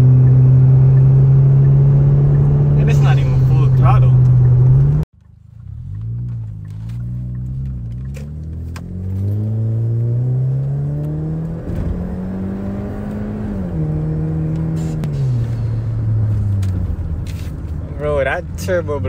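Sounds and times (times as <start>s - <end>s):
turbocharged car engine accelerating: 0.0s - 19.0s.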